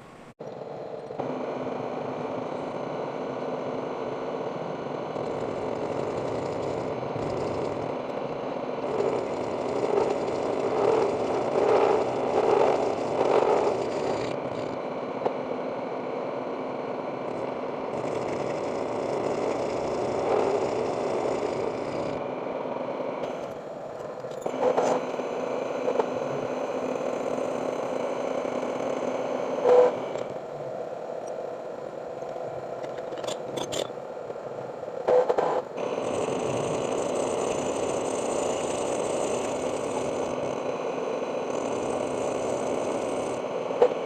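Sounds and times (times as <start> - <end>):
milling machine humming: 0.0 - 44.0.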